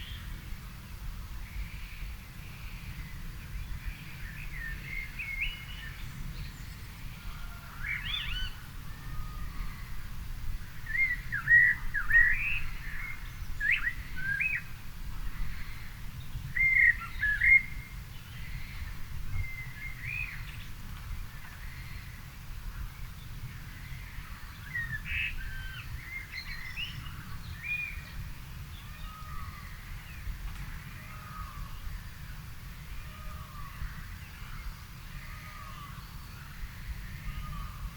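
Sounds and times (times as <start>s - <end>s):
songbirds singing: 0.0s - 37.9s.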